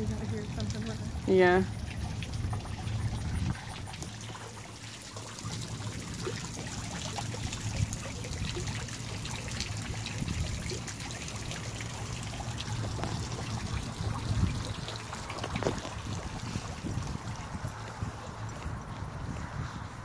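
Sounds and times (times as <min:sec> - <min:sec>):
fountain water dripping and trickling: 0:00.0 - 0:20.0.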